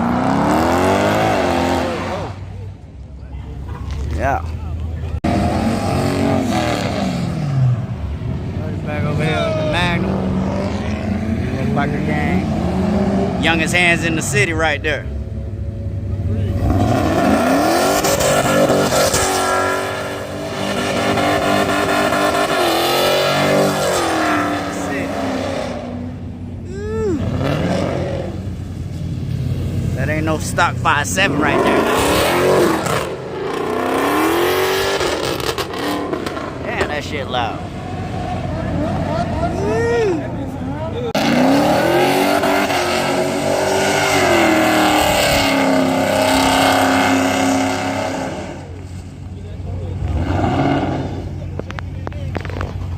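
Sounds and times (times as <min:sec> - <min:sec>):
car engine at high revs: 0:00.0 - 0:04.4, 0:05.0 - 0:52.9.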